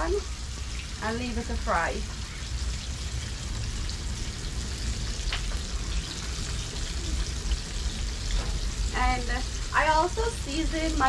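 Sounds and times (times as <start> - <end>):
fish deep-frying in oil: 0.0 - 11.0.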